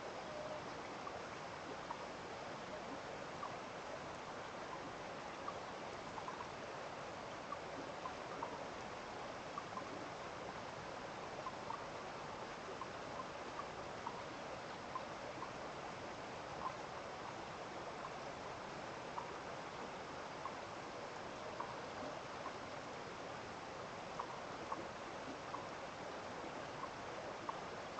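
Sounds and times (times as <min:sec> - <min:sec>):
stream of running water: 0:00.0 - 0:27.9.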